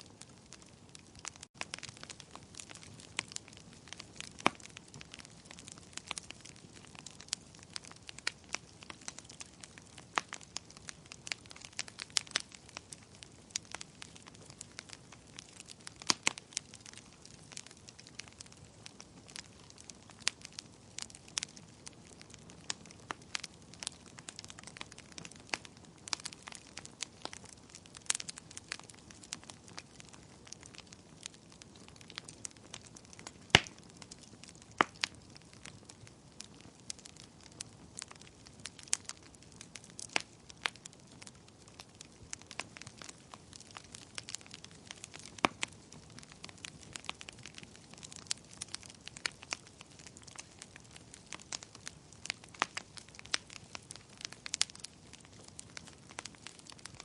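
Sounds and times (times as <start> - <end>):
fire crackling: 0.0 - 57.0
soft steady hiss: 0.0 - 57.0.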